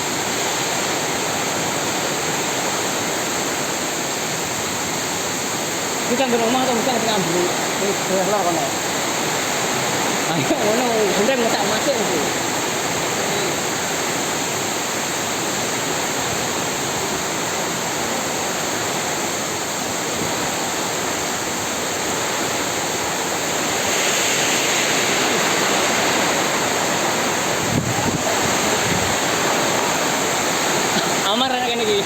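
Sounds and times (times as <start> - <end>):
heavy rain pouring: 0.0 - 32.0
storm wind: 0.0 - 32.0.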